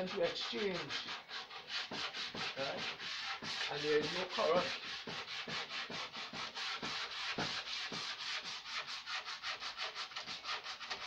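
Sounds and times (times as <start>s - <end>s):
sandpaper rasping on wood: 0.0s - 11.0s.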